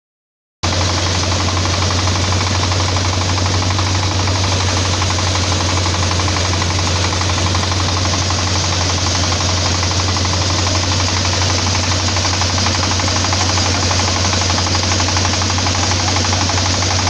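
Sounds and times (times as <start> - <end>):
diesel engine knocking drone: 0.6 - 17.0
drum thresher humming: 0.7 - 17.0.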